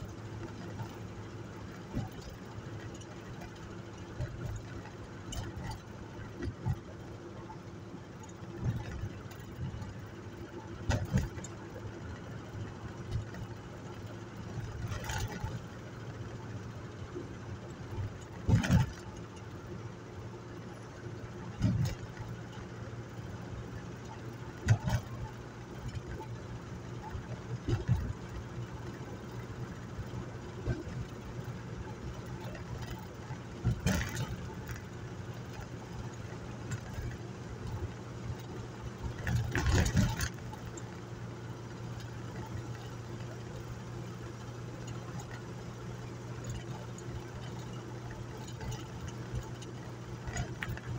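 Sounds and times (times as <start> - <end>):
road noise: 0.0 - 50.9
vehicle engine cruising: 0.0 - 50.9.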